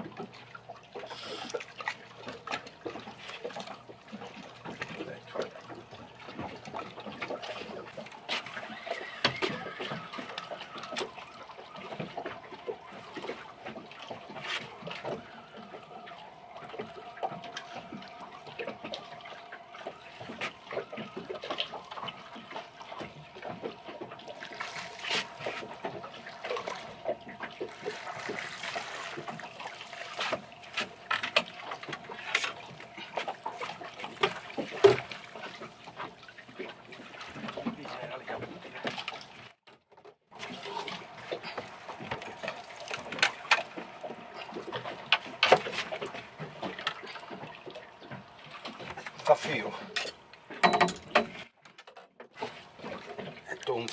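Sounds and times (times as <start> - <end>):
water lapping against boat hull: 0.0 - 53.9.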